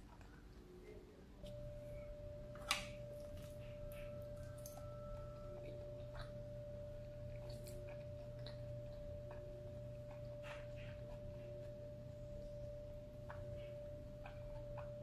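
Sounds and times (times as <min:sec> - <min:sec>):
low hum: 0:00.0 - 0:15.0
person chewing food: 0:02.6 - 0:15.0.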